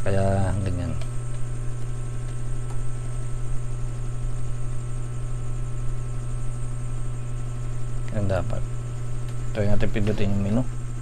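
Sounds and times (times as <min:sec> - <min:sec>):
low mains hum: 0:00.0 - 0:11.0
television static hiss: 0:00.0 - 0:11.0.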